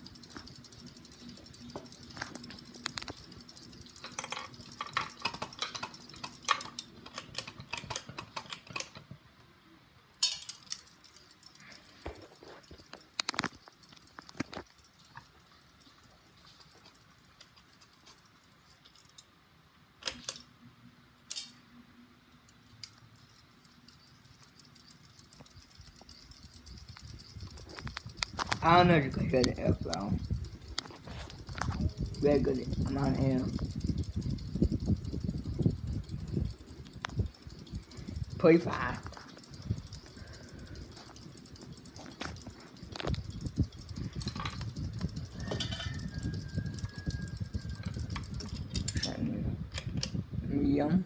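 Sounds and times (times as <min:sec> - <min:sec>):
clicks and rattles: 0:00.0 - 0:09.2, 0:10.2 - 0:19.3, 0:20.0 - 0:20.5, 0:21.3 - 0:21.6, 0:22.5 - 0:50.2
ceiling fan humming: 0:00.0 - 0:51.0.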